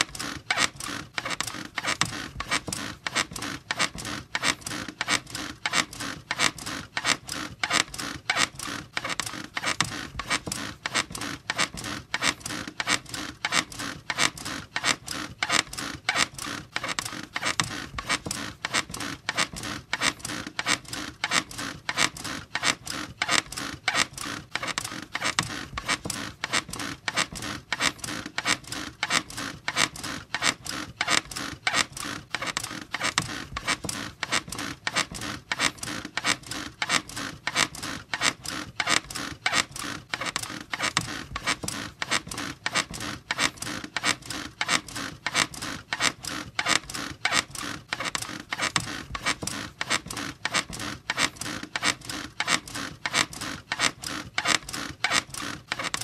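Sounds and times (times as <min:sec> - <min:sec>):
bed squeaking fast: 0:00.0 - 0:56.0.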